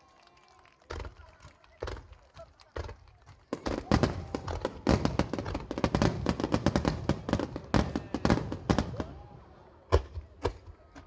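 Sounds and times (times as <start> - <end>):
fireworks bursting and crackling: 0.1 - 9.3.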